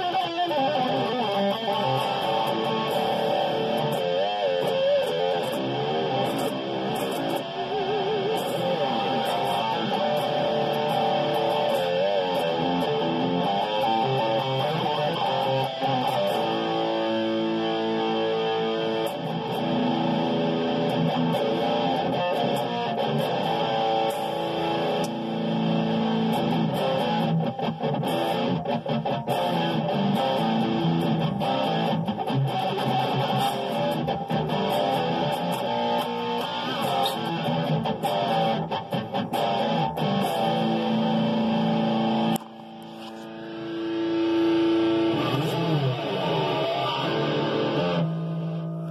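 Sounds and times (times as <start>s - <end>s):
electric guitar chords and notes: 0.0s - 48.9s.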